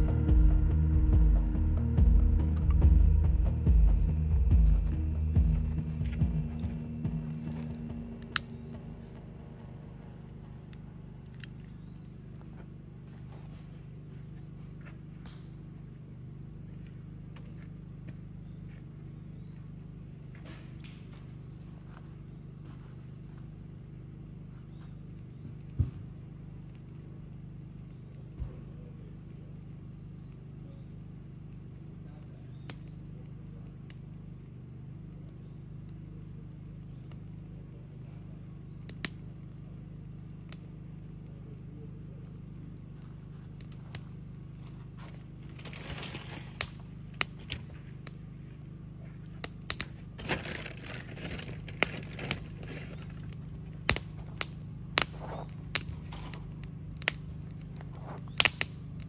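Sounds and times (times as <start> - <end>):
wood fire crackling and popping: 0.0 - 9.4, 10.2 - 59.0
steady low hum: 0.0 - 59.0.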